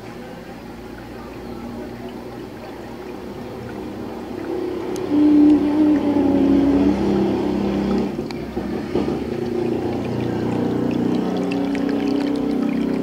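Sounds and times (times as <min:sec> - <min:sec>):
aquarium filter trickling water: 0:00.0 - 0:13.0
motor hum: 0:00.0 - 0:13.0.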